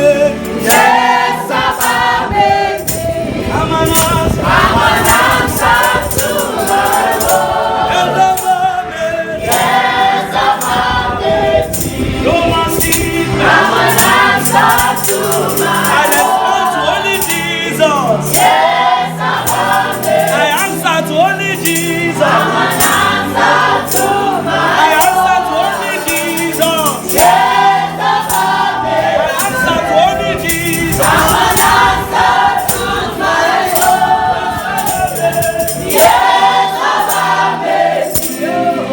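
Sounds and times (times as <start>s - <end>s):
percussive beat: 0.0s - 8.8s, 9.5s - 38.9s
band playing: 0.0s - 38.9s
voices singing: 0.0s - 38.9s.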